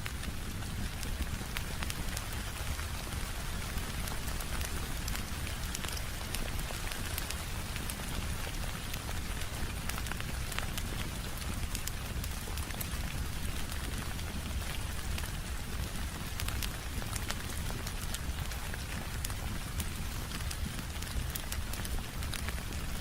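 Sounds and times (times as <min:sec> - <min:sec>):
fire crackling: 0:00.0 - 0:23.0
steady rain: 0:00.0 - 0:23.0.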